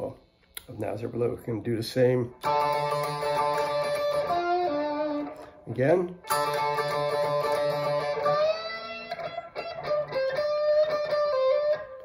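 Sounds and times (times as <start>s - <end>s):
electric guitar blues-rock lead: 2.4s - 12.0s.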